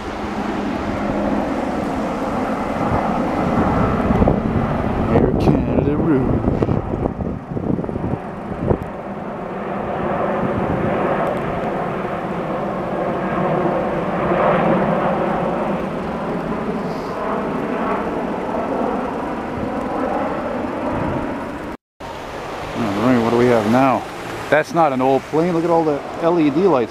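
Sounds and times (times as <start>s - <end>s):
jet airliner passing overhead: 0.0s - 26.9s.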